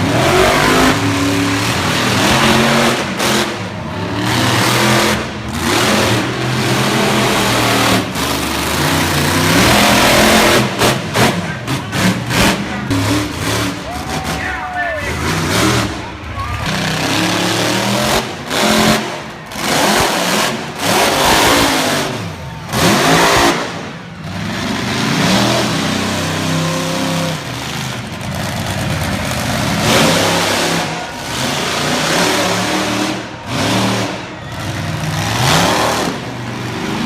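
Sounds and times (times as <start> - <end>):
monster truck engine revving: 0.0 - 37.0.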